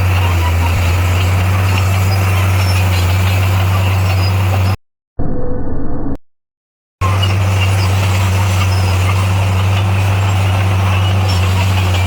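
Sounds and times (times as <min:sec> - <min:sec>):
diesel engine droning: 0:00.0 - 0:04.8, 0:07.0 - 0:12.0.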